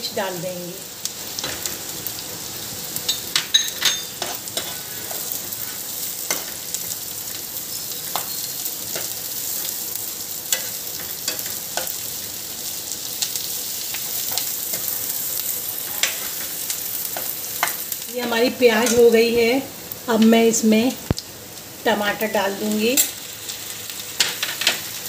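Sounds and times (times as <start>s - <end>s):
vegetables sizzling in a pan: 0.0s - 25.0s.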